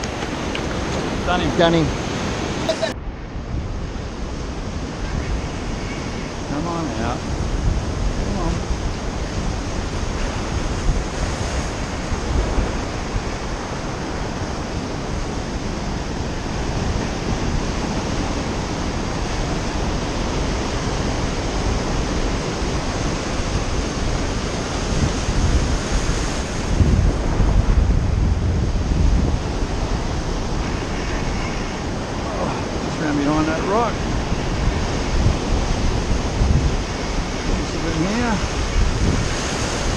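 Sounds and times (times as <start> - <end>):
ocean surf washing over rocks: 0.0 - 39.9
wind buffeting microphone: 0.0 - 39.9.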